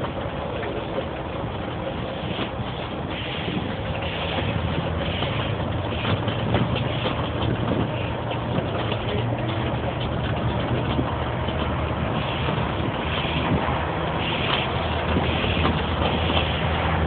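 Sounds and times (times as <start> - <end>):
bus engine drone: 0.0 - 17.0
road noise: 0.0 - 17.0
wind noise: 2.2 - 8.9, 10.0 - 17.0.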